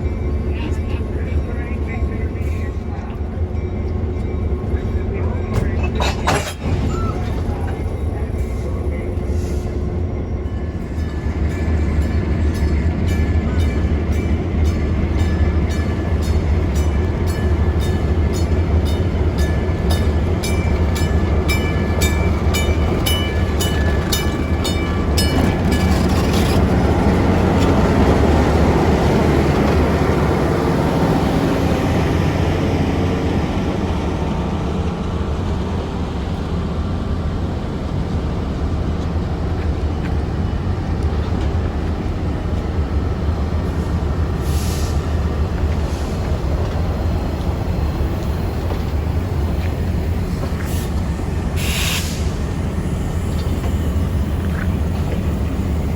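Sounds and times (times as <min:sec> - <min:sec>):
train engine rumble: 0:00.0 - 0:55.9.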